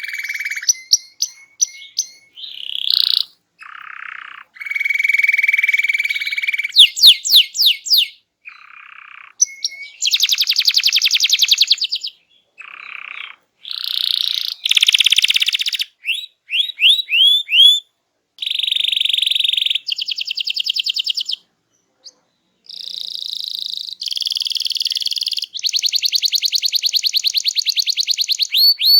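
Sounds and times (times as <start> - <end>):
canary singing trills: 0.0 - 28.9.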